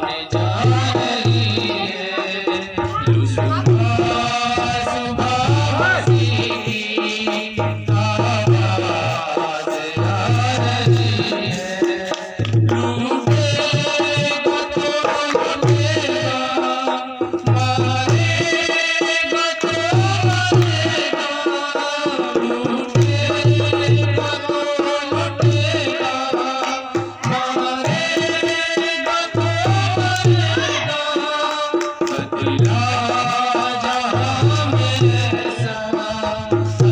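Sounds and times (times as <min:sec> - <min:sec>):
hand drum rhythm: 0:00.0 - 0:36.9.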